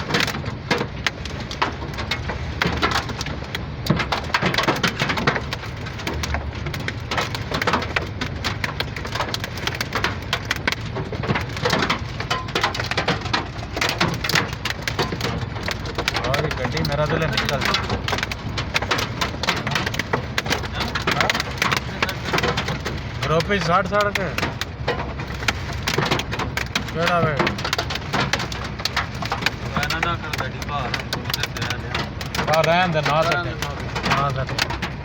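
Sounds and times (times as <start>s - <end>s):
heavy rain on hard surfaces: 0.0s - 35.0s.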